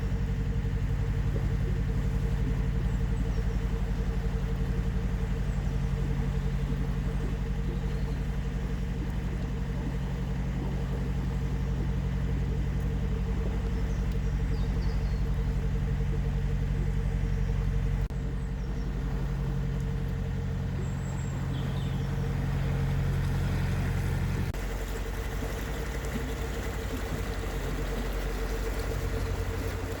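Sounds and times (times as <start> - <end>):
diesel engine throbbing: 0.0 - 30.0.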